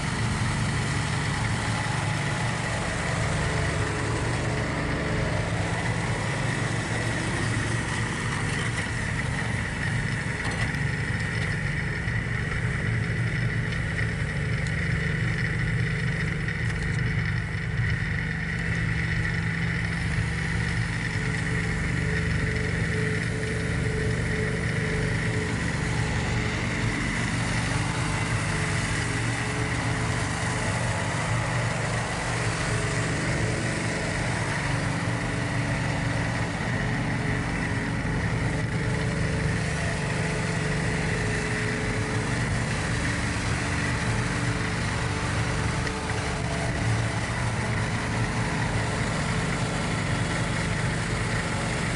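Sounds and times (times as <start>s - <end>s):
constant high whine: 0.0s - 51.9s
tractor diesel engine running: 0.0s - 51.9s.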